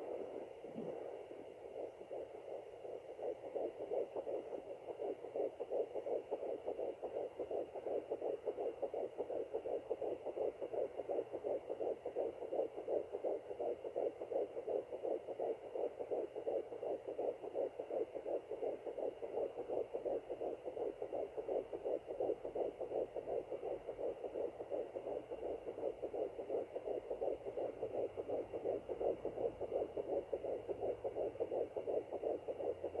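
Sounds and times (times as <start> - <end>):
fetal heartbeat whooshing pulses: 0.0 - 33.0.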